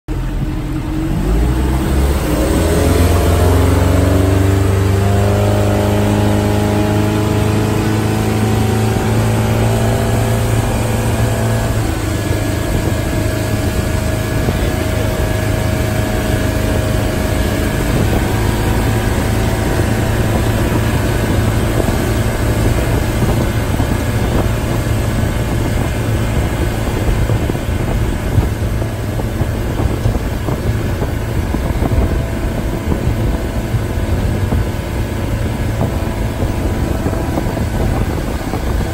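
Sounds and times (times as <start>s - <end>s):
motorboat engine: 0.1s - 38.9s
rushing water: 0.1s - 38.9s.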